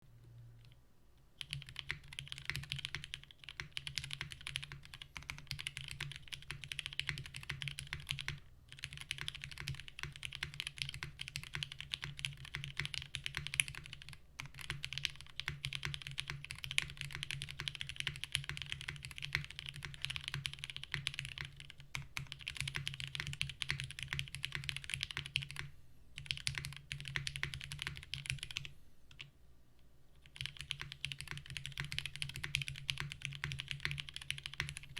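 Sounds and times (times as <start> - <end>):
fast typing on mechanical keyboard: 1.4 - 29.3, 30.2 - 34.9.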